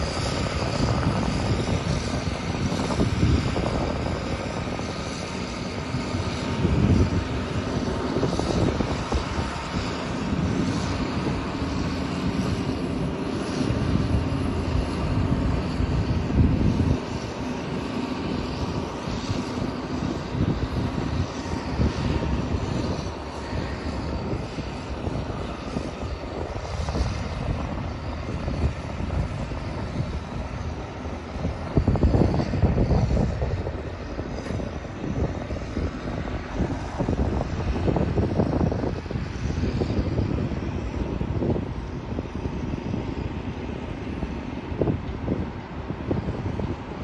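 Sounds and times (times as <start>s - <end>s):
motor grader diesel engine: 0.0s - 47.0s.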